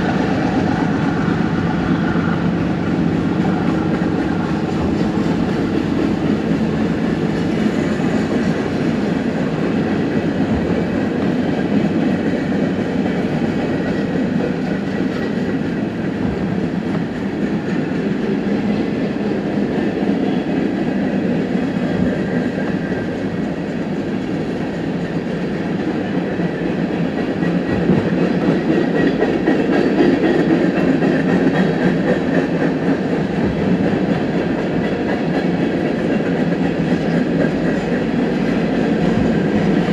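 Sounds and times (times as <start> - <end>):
train wheels clattering over rail joints: 0.2 - 39.9.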